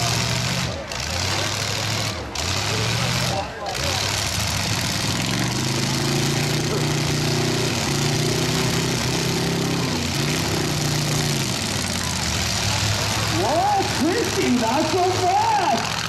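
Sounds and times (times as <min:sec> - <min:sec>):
noisy background: 0:00.0 - 0:16.0
truck engines revving: 0:00.0 - 0:16.0.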